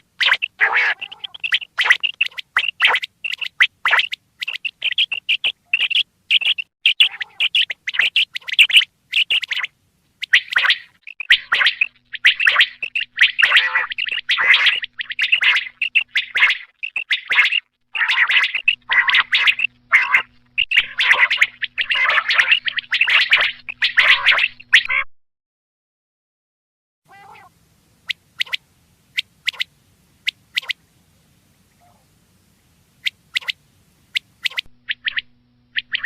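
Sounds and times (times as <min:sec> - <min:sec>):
quail chirping calls: 0:00.0 - 0:25.0, 0:27.1 - 0:28.6, 0:29.2 - 0:30.8, 0:31.8 - 0:32.1, 0:33.0 - 0:36.0.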